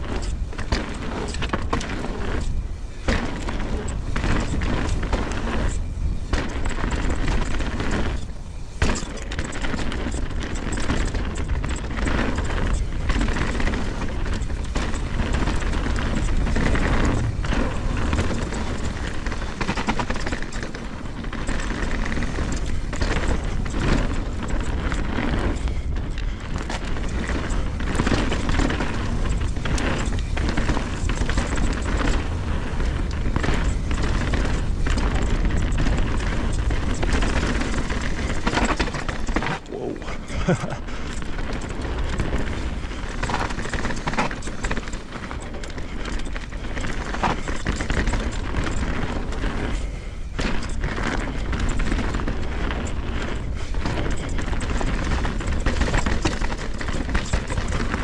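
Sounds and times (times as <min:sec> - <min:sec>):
bike knocking and rattling: 0:00.0 - 0:58.0
wind rumble on microphone: 0:00.0 - 0:58.0.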